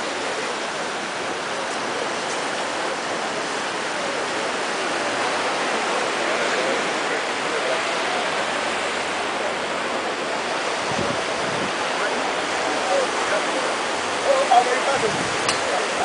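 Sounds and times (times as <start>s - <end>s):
ocean surf rushing: 0.0s - 16.0s.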